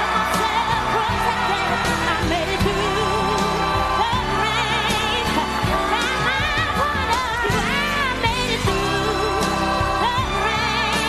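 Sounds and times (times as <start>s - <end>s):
band with steady drum beat: 0.0s - 11.0s
singer with wide vibrato: 0.0s - 11.0s.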